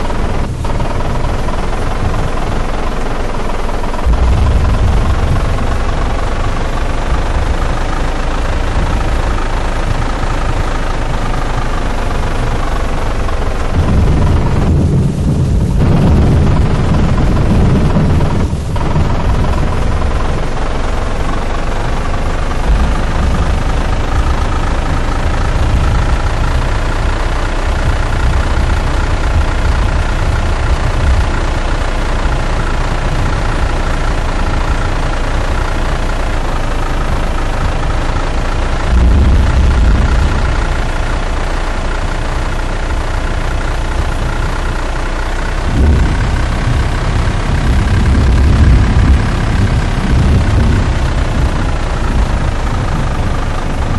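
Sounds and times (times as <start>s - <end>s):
deep rumbles: 0.0s - 53.9s
vehicle engine droning: 0.0s - 53.9s.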